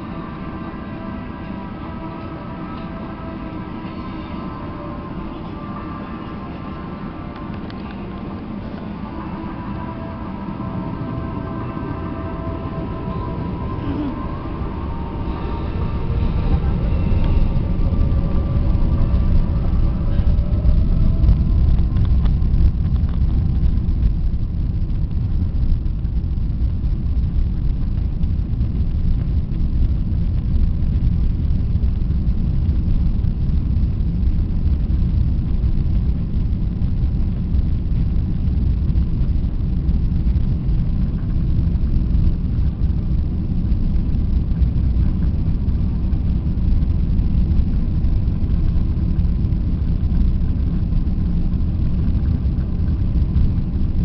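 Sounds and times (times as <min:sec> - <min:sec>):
deep rumble of jet engines: 0:00.0 - 0:54.0
faint jet engine whine: 0:00.0 - 0:54.0.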